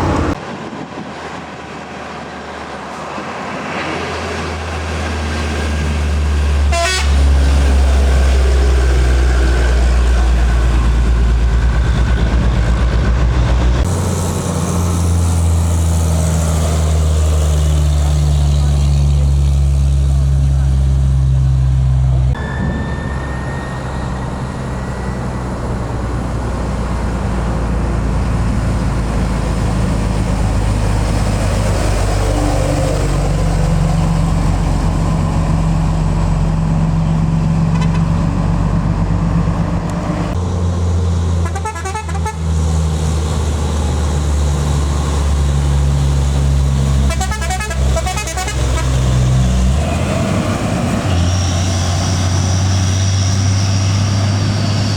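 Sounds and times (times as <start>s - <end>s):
diesel trucks engine drone: 0.0s - 54.9s.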